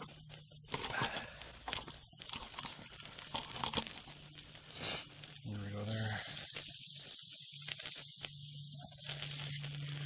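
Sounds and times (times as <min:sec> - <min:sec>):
wood fire crackling and sizzling: 0:00.0 - 0:10.0.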